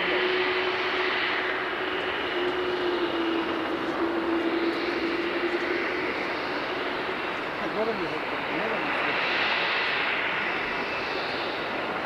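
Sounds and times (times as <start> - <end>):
distant jet airliner rush: 0.0 - 12.0.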